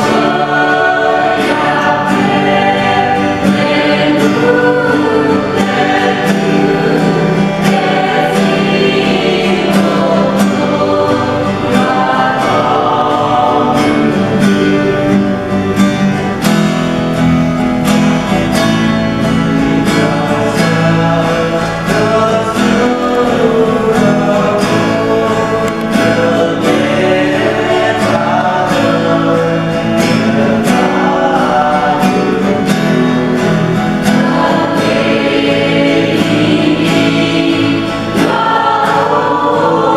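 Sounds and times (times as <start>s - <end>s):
group singing worship song: 0.0s - 39.9s
strummed guitar: 0.0s - 39.9s.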